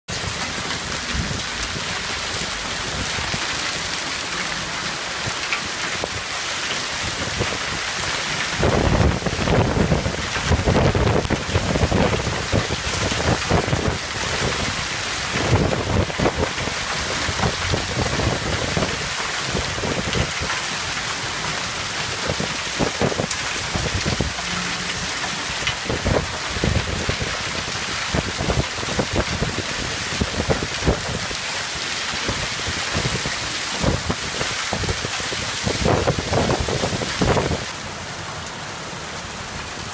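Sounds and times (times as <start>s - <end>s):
rain and hail on pavement: 0.1s - 39.9s.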